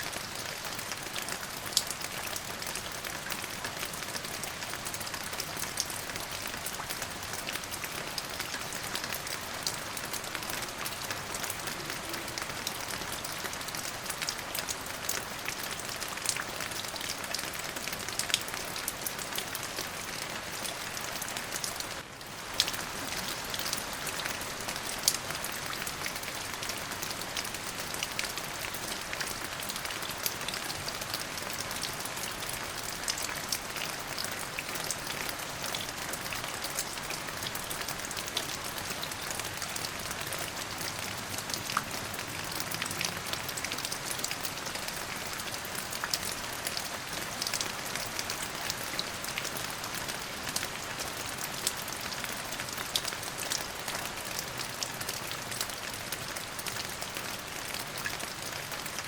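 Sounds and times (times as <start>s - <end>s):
raindrops ticking on surface: 0.0s - 59.0s
steady rain falling: 0.0s - 59.0s.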